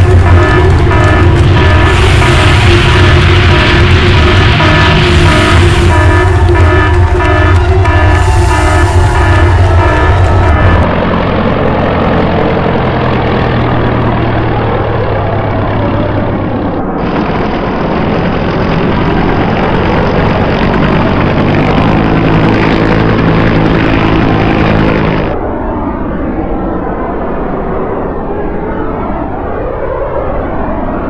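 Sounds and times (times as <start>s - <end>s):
deeper engine tone: 0.0s - 27.1s
propeller airplane engine droning: 0.0s - 31.0s.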